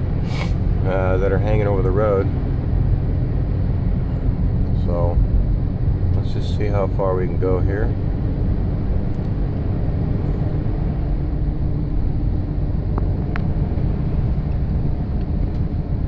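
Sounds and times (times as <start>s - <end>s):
vehicle engine and tyre rumble: 0.0s - 16.0s.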